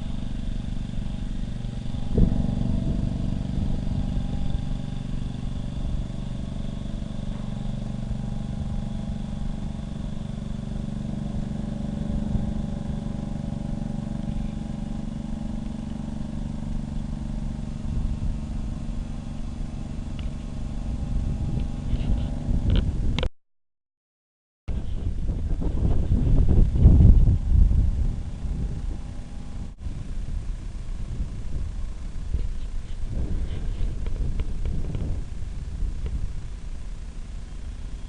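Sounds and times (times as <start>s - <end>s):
engine droning: 0.0s - 23.3s, 24.7s - 38.0s.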